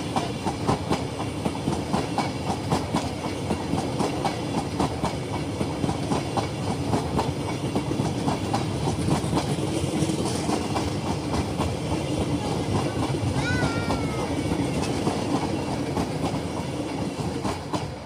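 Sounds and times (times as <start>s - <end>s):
train rumble: 0.0s - 18.0s
wheels clacking over rail joints: 0.0s - 18.0s.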